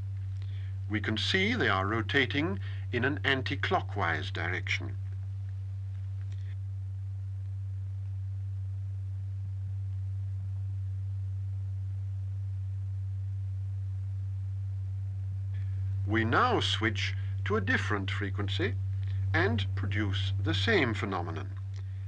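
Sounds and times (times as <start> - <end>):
steady low pure tone: 0.0 - 22.0.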